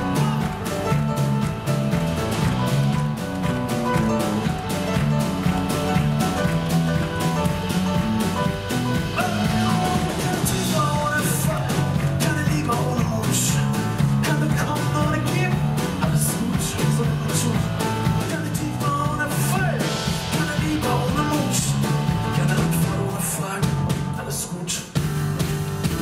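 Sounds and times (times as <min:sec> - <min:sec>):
live band playing: 0:00.0 - 0:26.0.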